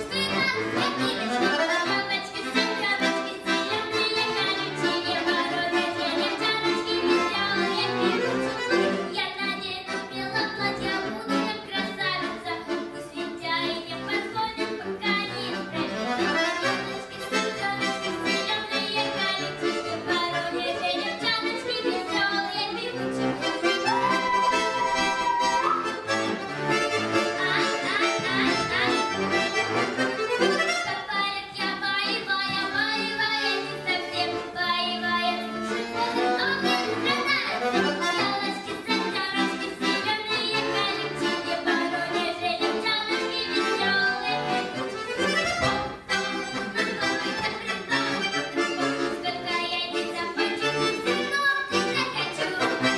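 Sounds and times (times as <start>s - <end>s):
accordion playing lively piece: 0.0s - 52.9s.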